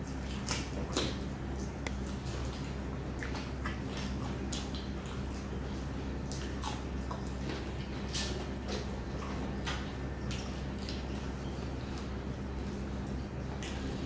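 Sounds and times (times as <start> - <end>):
mouths chewing and smacking: 0.0 - 14.0.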